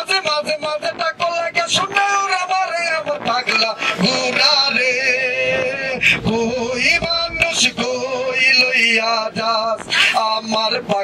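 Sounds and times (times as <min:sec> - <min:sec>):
man singing into microphone: 0:00.0 - 0:11.0.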